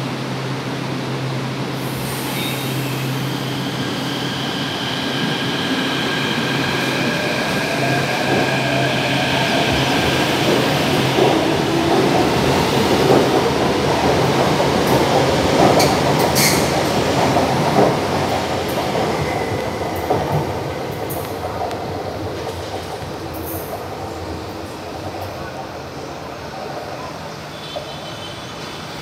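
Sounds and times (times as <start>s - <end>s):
train wheels rumbling on rail: 0.1s - 29.0s.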